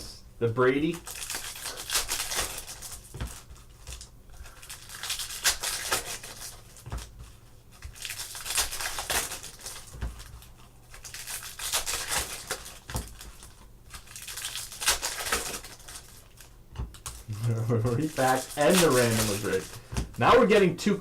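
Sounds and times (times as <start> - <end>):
packaging crinkling and tearing: 1.0 - 7.1, 7.7 - 20.4.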